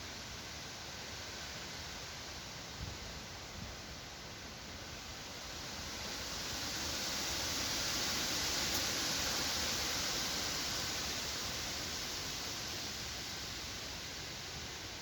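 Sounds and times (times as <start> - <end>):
wind rushing through trees: 0.0 - 15.0.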